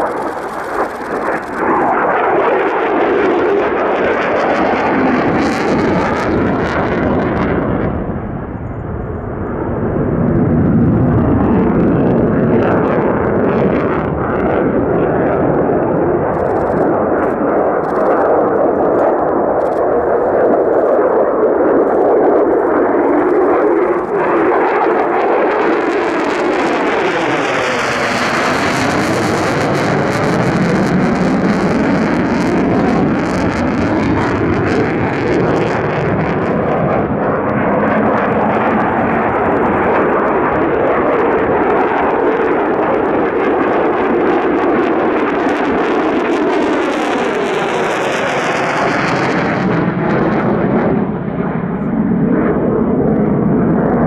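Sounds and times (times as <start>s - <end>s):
jet engine roaring overhead: 0.0s - 54.0s.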